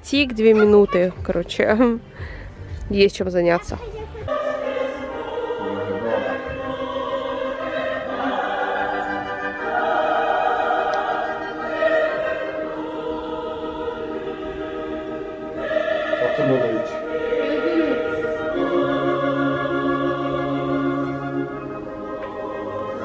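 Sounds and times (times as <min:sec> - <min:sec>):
operatic singing with orchestra: 0:04.2 - 0:23.0.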